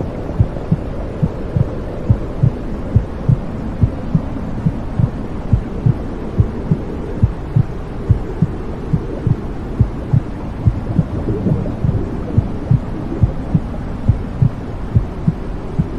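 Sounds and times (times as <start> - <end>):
low whooshing rumble: 0.0 - 15.9
muffled heartbeat thumps: 0.4 - 15.9.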